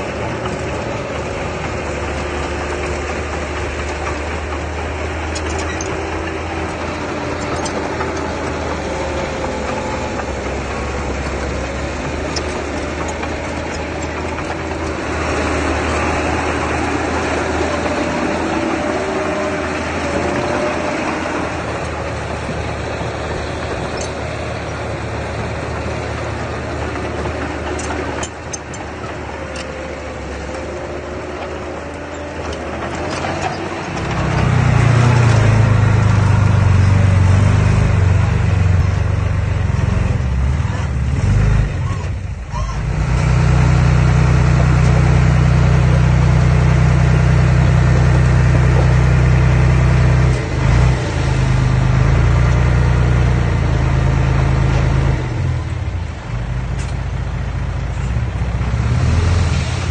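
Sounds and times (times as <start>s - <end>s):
earthmoving machine engine running: 0.0s - 59.9s.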